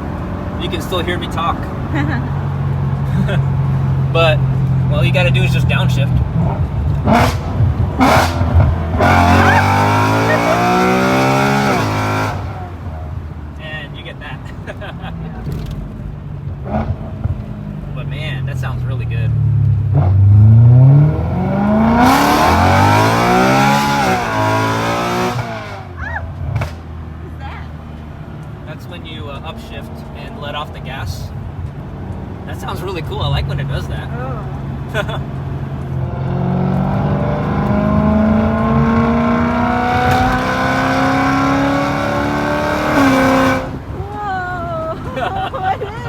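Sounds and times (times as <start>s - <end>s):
car engine accelerating hard: 0.0s - 46.0s.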